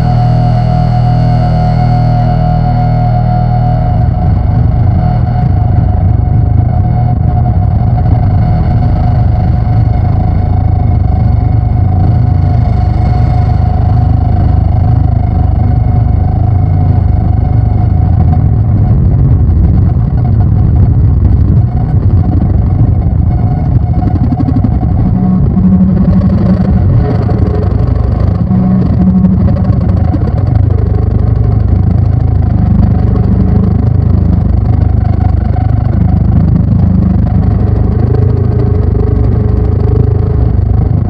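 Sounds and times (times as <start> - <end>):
distorted electronic drone: 0.0 - 41.0.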